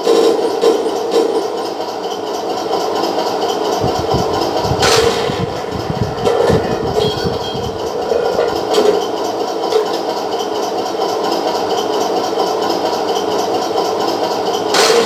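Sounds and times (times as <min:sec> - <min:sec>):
toy tank engine idle sound: 0:00.0 - 0:15.0.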